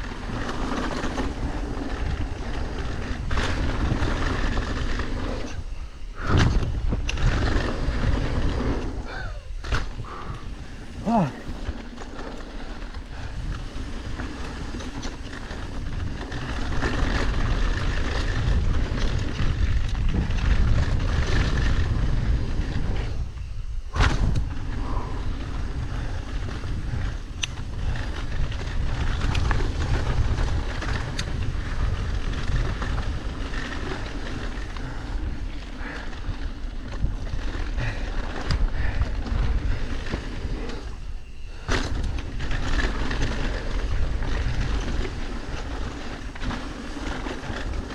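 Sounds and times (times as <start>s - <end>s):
bike rattles and knocks: 0.0s - 47.9s
bike tyres rolling on dirt: 0.0s - 47.9s
wind rushing over microphone: 0.0s - 47.9s.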